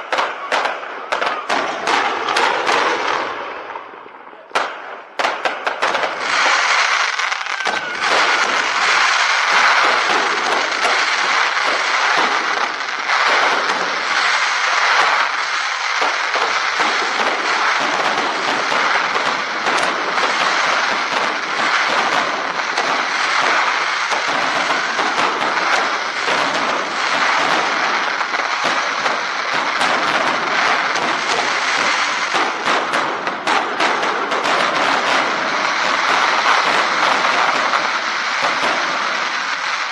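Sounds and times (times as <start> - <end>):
fireworks crackling: 0.0 - 39.9
sharp fireworks cracks: 0.0 - 39.9.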